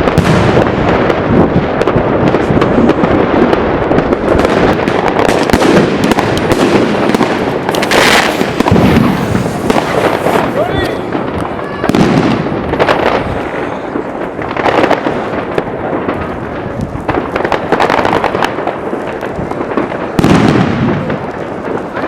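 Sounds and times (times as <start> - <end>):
fireworks and firecrackers banging: 0.0 - 22.0.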